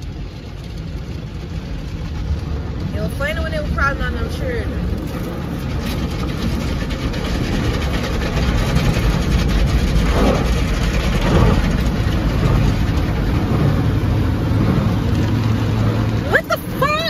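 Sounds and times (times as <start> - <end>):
car cabin rumble: 0.0 - 17.0
low steady hum: 0.0 - 17.0.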